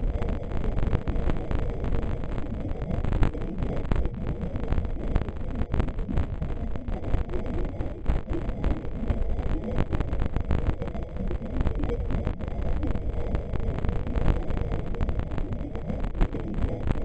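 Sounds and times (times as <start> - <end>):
irregular crackling: 0.0 - 17.0.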